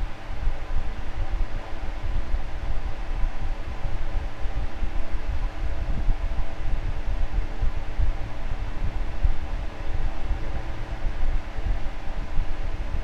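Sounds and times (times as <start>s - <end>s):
fan air rushing: 0.0s - 13.0s
fan motor hum: 0.0s - 13.0s.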